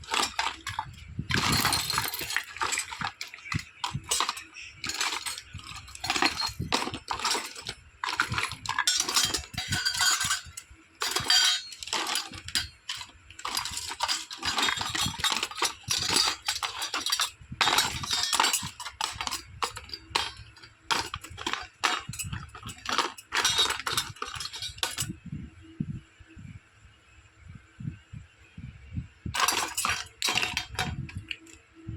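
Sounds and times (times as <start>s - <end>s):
plastic toy pieces clinking: 0.0s - 25.2s, 29.4s - 31.6s.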